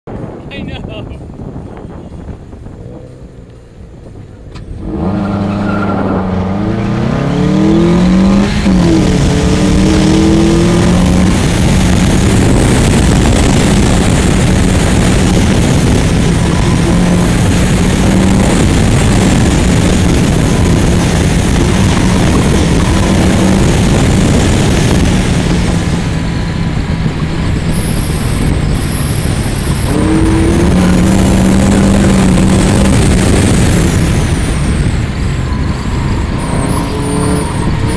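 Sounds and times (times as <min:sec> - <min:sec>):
car engine accelerating hard: 0:01.4 - 0:37.9.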